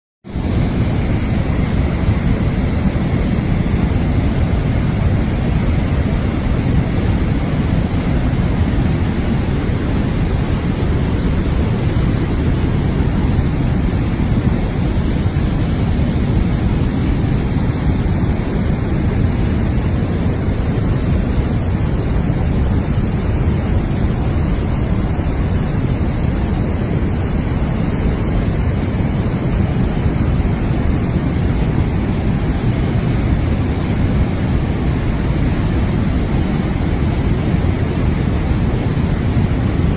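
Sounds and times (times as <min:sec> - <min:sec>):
stream water rushing: 0:00.3 - 0:39.9.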